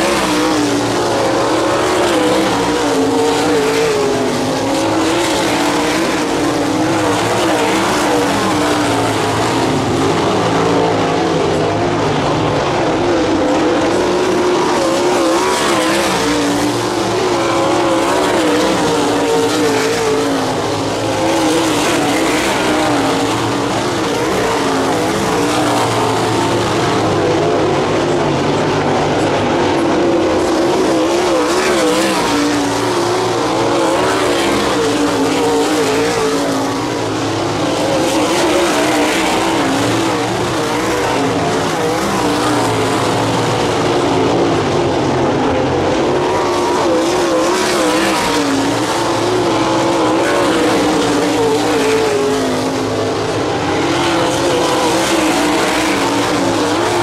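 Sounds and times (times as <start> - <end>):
race car engines at speed: 0.0 - 57.0.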